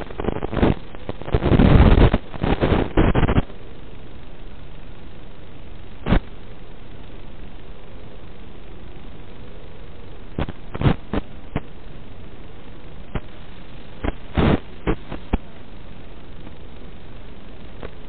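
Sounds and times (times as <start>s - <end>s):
sharp crackles and pops: 0.0s - 18.0s
static hiss: 0.0s - 18.0s.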